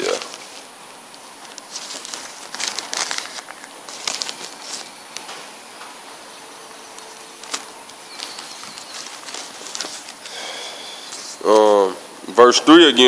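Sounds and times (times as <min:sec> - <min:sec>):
rustling and crackling handling: 0:00.0 - 0:11.7
low hiss: 0:00.0 - 0:13.0.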